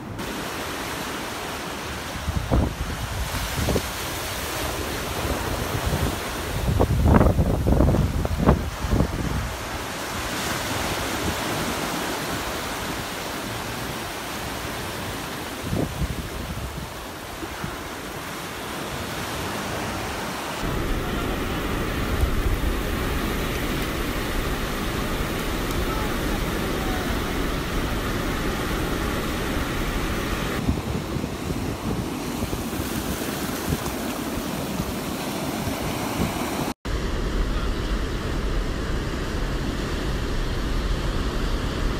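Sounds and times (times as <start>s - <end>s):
ocean surf breaking on beach: 0.0s - 41.9s
wind buffeting microphone: 2.1s - 13.0s, 15.0s - 18.3s, 19.1s - 41.9s.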